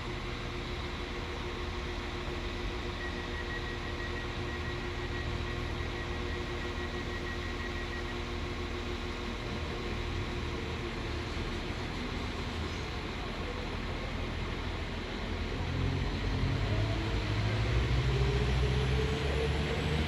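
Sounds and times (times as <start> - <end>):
diesel train engine rumble: 0.0 - 20.0.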